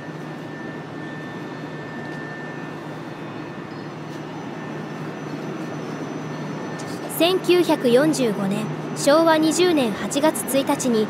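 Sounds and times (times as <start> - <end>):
faint high-pitched whine: 0.0 - 11.0
machine hum: 0.0 - 11.0.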